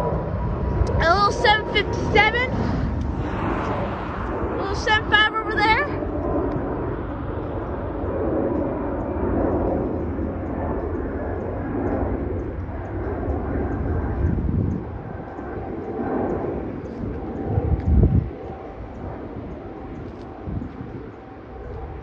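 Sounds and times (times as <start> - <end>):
jet airliner roaring on departure: 0.0 - 22.0.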